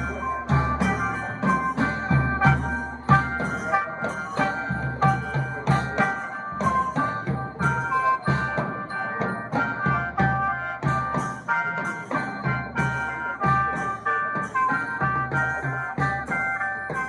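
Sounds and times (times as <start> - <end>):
drum and percussion beat: 0.0 - 17.0.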